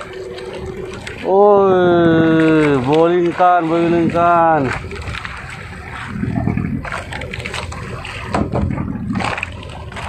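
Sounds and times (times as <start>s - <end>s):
water rushing along hull: 0.0s - 10.0s
wind buffeting microphone: 0.0s - 10.0s.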